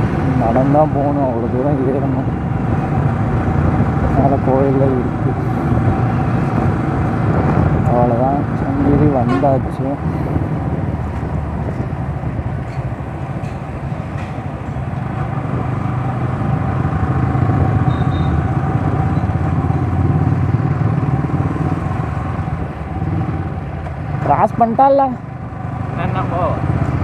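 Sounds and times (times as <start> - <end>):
wind rushing over microphone: 0.0 - 23.7.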